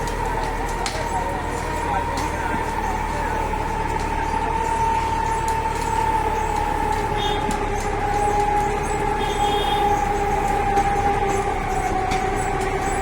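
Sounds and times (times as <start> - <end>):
rail vehicle whine and rumble: 0.0 - 13.0.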